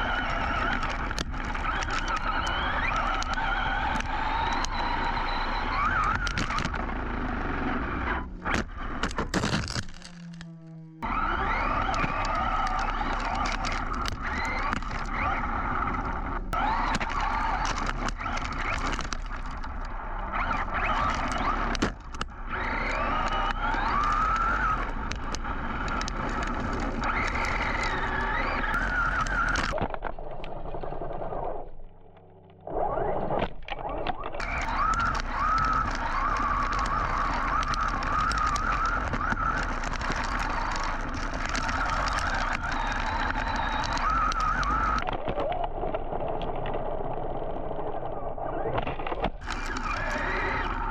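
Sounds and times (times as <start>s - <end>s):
electric motor whine: 0.0s - 29.8s, 34.1s - 45.1s, 49.3s - 50.9s
tyre dirt and wind noise: 0.0s - 31.7s, 32.6s - 50.9s.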